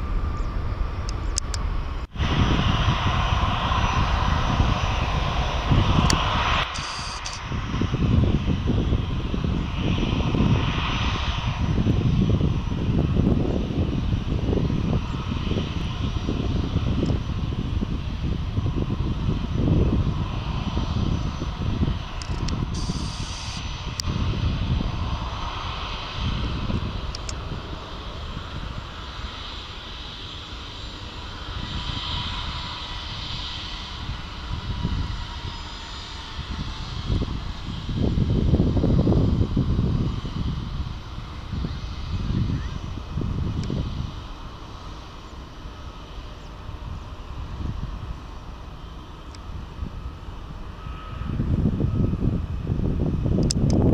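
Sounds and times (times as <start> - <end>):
jet engines rumbling: 0.0 - 53.9.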